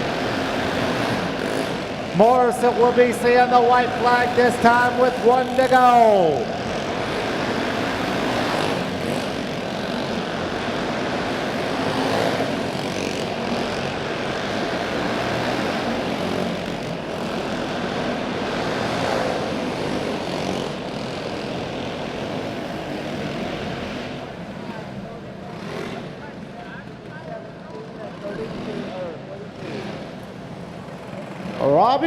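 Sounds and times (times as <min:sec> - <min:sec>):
go-kart engines buzzing: 0:00.0 - 0:32.0.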